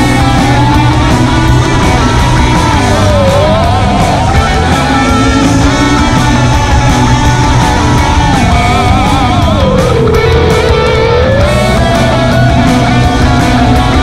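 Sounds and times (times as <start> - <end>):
electric guitar lead melody: 0.0 - 14.0
rock music: 0.0 - 14.0.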